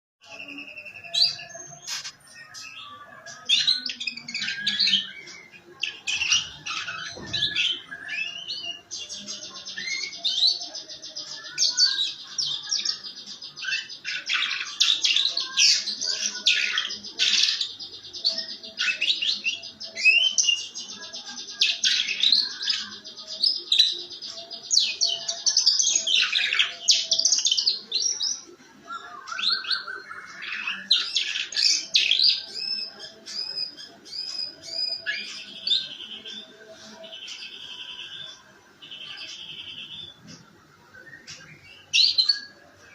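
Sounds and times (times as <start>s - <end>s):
canary singing trills: 0.2s - 42.9s.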